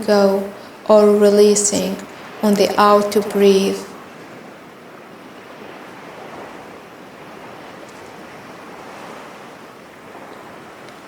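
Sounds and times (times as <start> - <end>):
ocean waves: 0.0 - 11.0.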